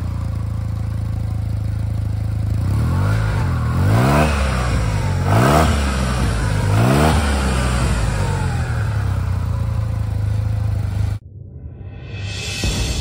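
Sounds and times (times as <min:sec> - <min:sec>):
engine idling: 0:00.0 - 0:11.2
scooter engine revving: 0:00.0 - 0:11.2.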